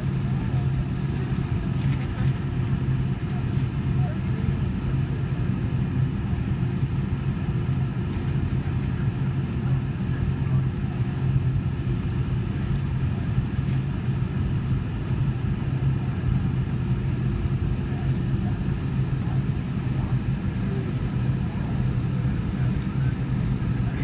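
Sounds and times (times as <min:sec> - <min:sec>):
jet engine hum in cabin: 0:00.0 - 0:24.0.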